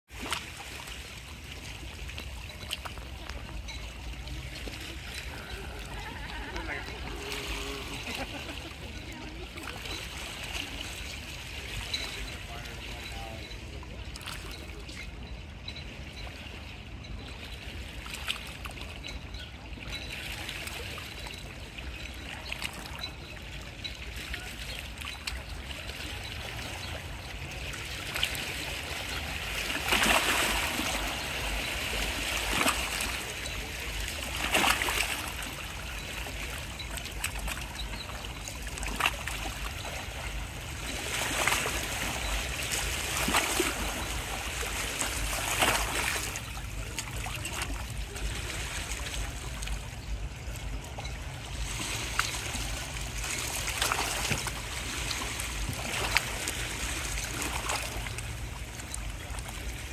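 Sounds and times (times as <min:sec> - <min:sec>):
small waves lapping on rocks: 0:00.1 - 0:59.9.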